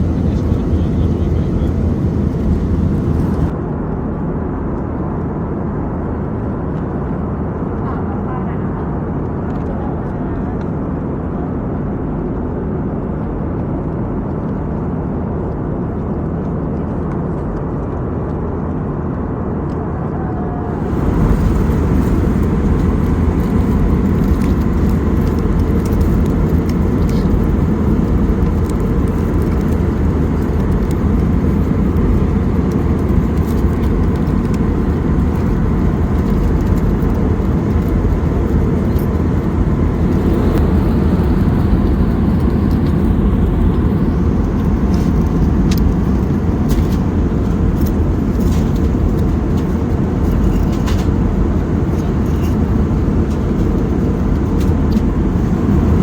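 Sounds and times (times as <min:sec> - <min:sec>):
airplane cabin airflow and engine drone: 0:00.0 - 0:56.0
faint constant hum: 0:00.0 - 0:56.0.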